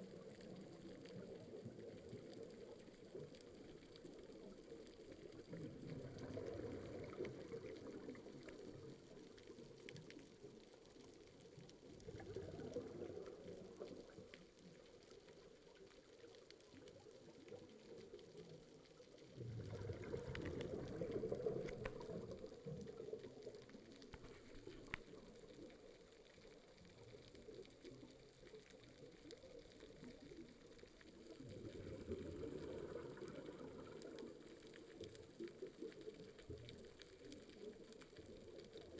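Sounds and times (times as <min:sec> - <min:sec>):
underwater exhaled bubbles: 0:00.0 - 0:38.9.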